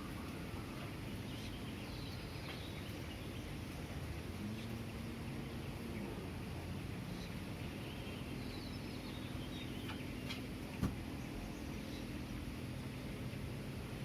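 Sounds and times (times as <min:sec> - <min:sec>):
birds chirping faintly: 0:00.0 - 0:14.0
distant traffic rumble: 0:00.0 - 0:14.0
faint low hum: 0:00.0 - 0:14.0.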